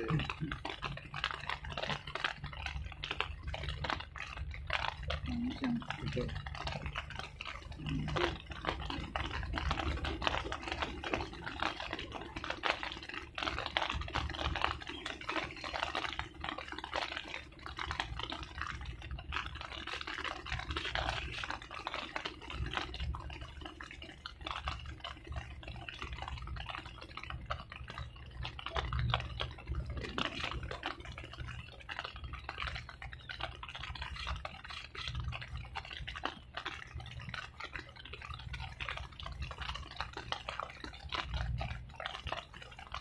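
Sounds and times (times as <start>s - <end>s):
irregular crackling patter: 0.0s - 43.0s
wind rumbling on microphone: 0.0s - 43.0s.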